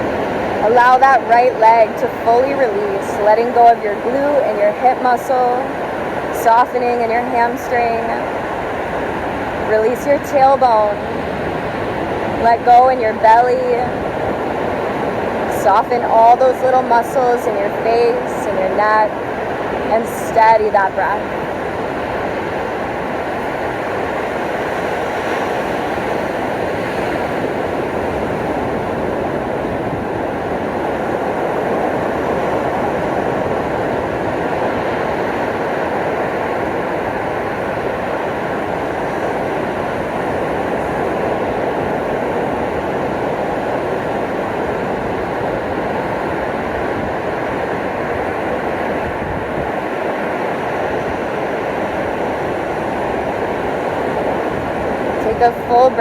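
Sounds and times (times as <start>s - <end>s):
ocean surf rushing: 0.0s - 56.0s.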